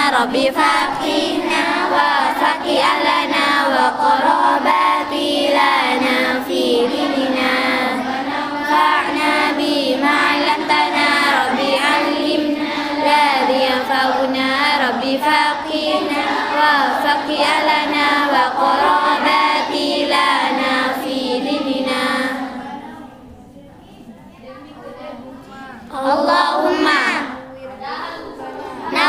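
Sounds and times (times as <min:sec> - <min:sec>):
girls chanting in unison: 0:00.0 - 0:23.3, 0:25.8 - 0:29.0.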